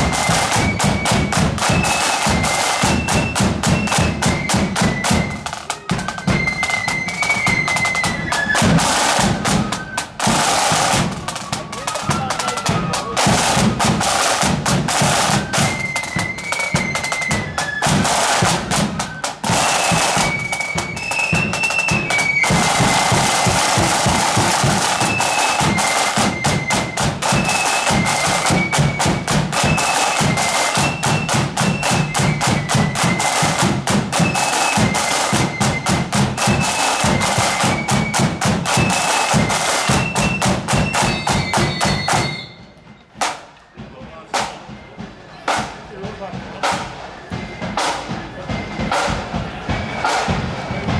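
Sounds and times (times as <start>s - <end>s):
flutes playing melody: 0.0s - 50.9s
rapid snare drumming: 0.0s - 50.9s.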